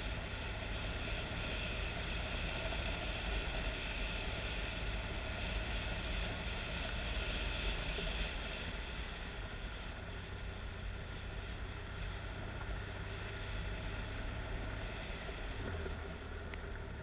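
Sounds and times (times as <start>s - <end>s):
motorcycle engine running: 0.0s - 17.0s
tyre noise on dirt road: 0.0s - 17.0s
wind: 0.0s - 17.0s.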